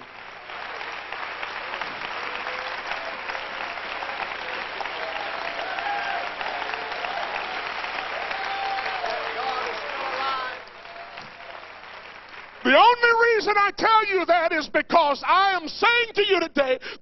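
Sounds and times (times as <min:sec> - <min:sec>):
congregation applauding: 0:00.0 - 0:14.5.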